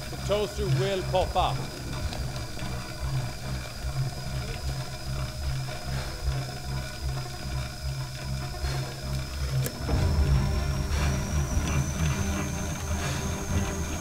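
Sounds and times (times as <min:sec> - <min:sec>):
exercise bike generator whirring: 0:00.0 - 0:14.0.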